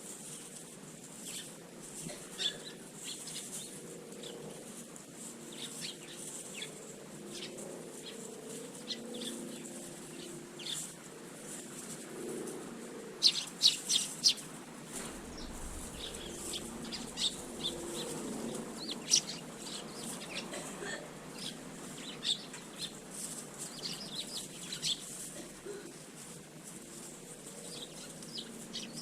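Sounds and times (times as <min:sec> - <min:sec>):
sparrows chirping: 0:01.1 - 0:11.0, 0:13.2 - 0:25.3, 0:26.7 - 0:29.0.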